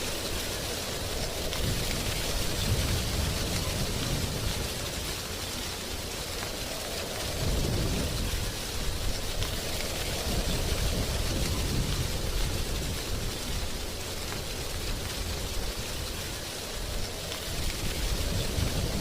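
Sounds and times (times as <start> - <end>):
wind rustling tree leaves: 0.0 - 19.0.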